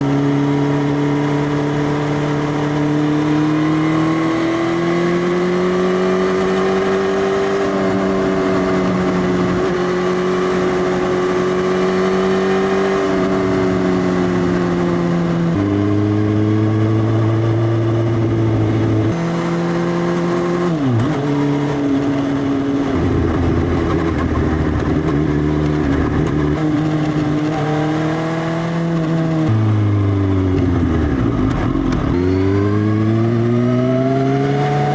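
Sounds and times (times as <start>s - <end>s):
loud motorcycle exhaust: 5.4s - 34.9s.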